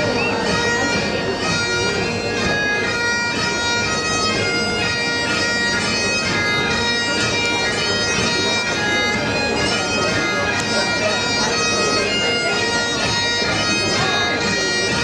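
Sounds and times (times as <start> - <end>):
bagpipe playing a quick tune: 0.0 - 15.0.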